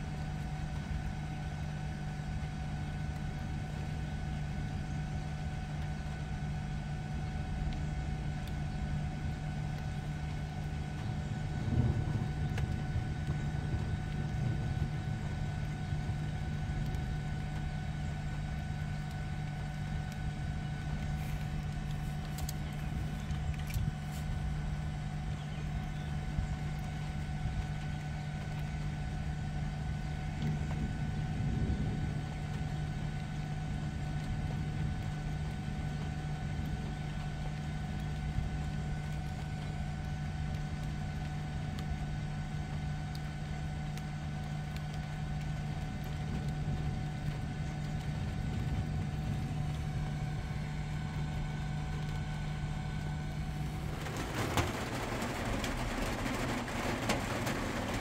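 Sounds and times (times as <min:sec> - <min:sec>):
low rumble: 0:00.0 - 0:42.0, 0:43.9 - 0:58.0
idling vehicle hum: 0:00.0 - 0:58.0.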